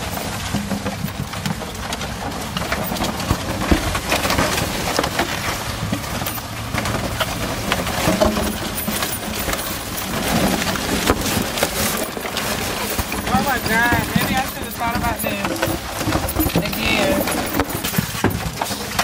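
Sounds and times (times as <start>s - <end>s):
small crinkling clicks: 0.0s - 19.0s
balloons rustling and bumping: 3.2s - 19.0s.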